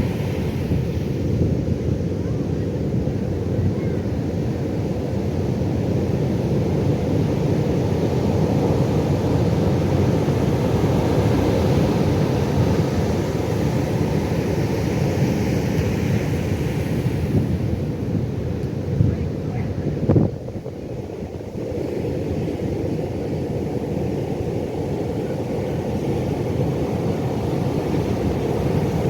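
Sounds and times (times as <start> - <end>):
ocean surf rumbling: 0.0 - 29.0
wind on microphone: 0.0 - 29.0.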